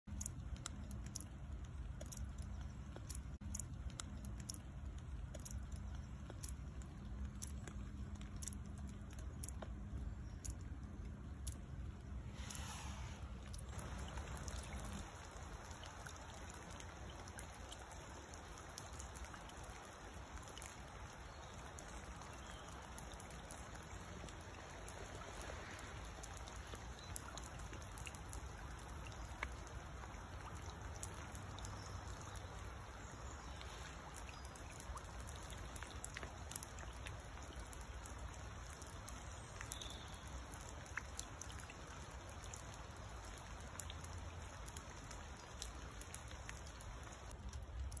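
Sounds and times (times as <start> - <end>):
light rain on puddles: 0.0 - 48.0
water drips: 0.0 - 48.0.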